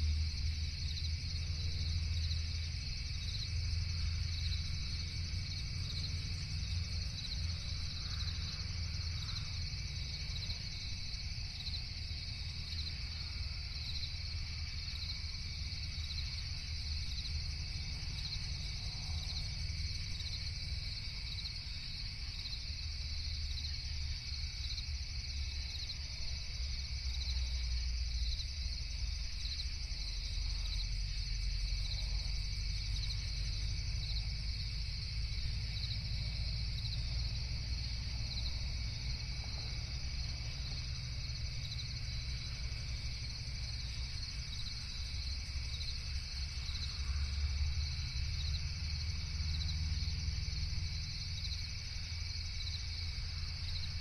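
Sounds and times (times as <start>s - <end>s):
crickets chirping: 0.0s - 54.0s
low insect drone: 0.0s - 54.0s.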